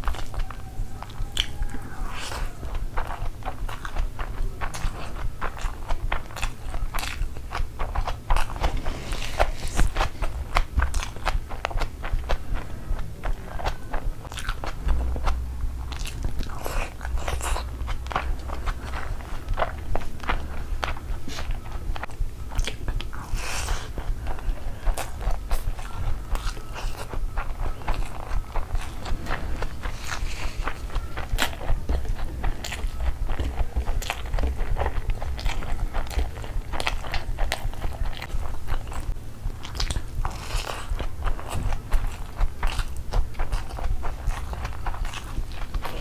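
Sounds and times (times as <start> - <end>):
chewing with lip smacks: 0.0 - 46.0
crunch: 0.0 - 46.0.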